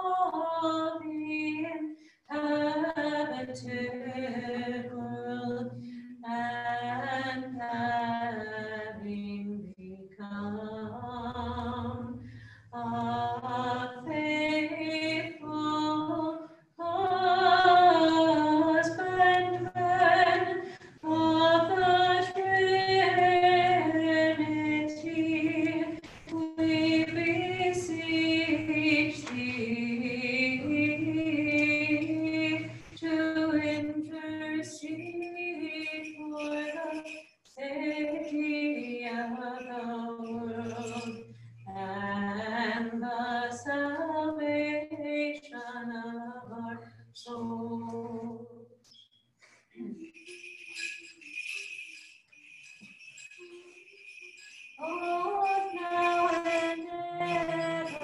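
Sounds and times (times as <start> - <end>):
woman chanting unaccompanied: 0.0 - 12.2, 12.8 - 48.6, 54.8 - 58.0.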